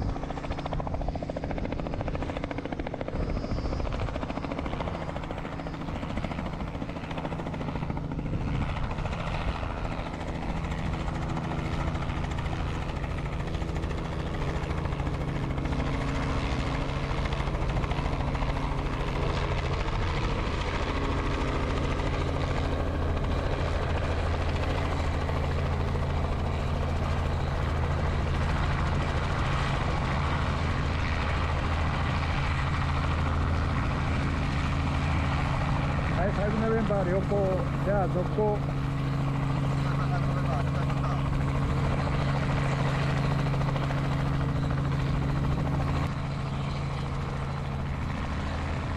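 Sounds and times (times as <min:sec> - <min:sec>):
helicopter rotor and engine: 0:00.0 - 0:48.9.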